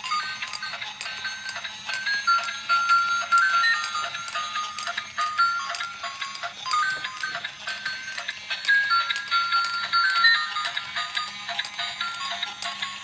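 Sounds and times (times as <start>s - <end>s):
regular clicks: 0.4s - 12.9s.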